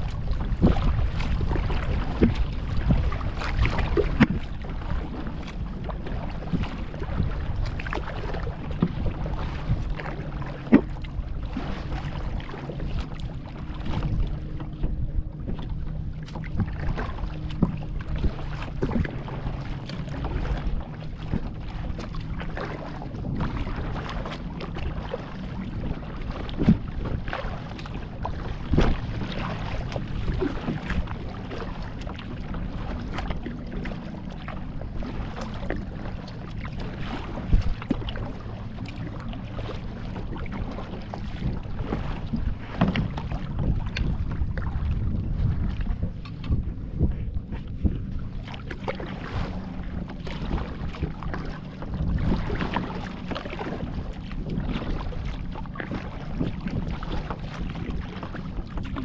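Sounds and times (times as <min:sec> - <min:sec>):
water sloshing around kayak: 0:00.0 - 0:59.0
wind on microphone: 0:00.0 - 0:59.0.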